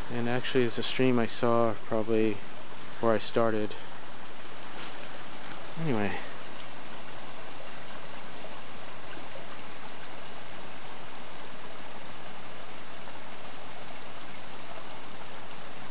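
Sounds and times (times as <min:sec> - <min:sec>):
stream running over rocks: 0:00.0 - 0:15.9.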